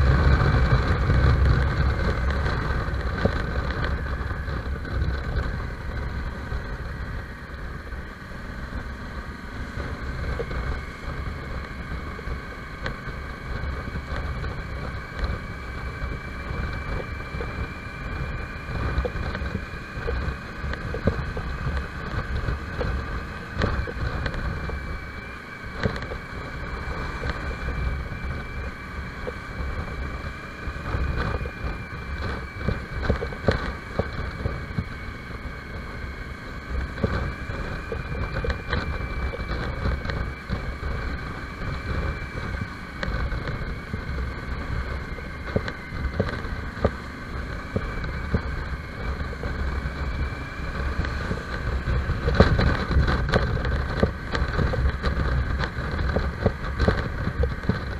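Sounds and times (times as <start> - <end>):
low road rumble: 0.0 - 57.9
motorcycle engine running: 0.0 - 57.9
wind buffeting microphone: 0.0 - 57.9.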